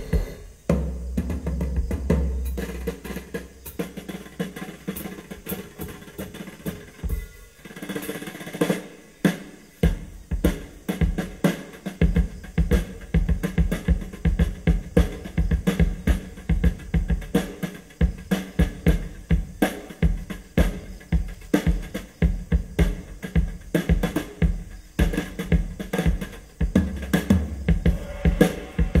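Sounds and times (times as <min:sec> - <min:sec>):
drum beat through loudspeakers: 0:00.0 - 0:29.0.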